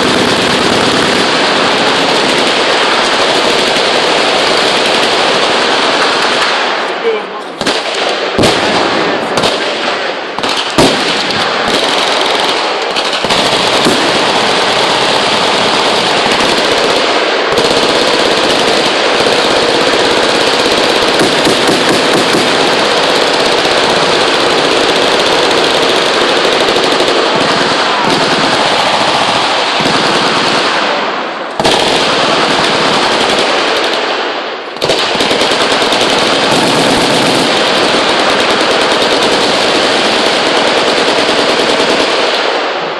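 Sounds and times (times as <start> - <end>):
machine guns firing full-auto: 0.0 - 42.9.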